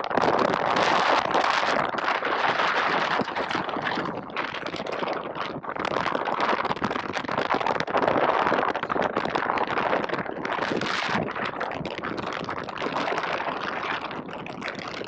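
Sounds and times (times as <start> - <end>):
water rushing and splashing: 0.0 - 15.0
wind buffeting microphone: 0.0 - 15.0.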